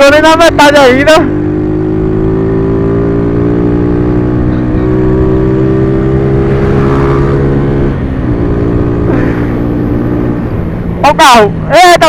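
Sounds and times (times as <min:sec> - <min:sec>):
motorcycle engine high revs: 0:00.0 - 0:11.6.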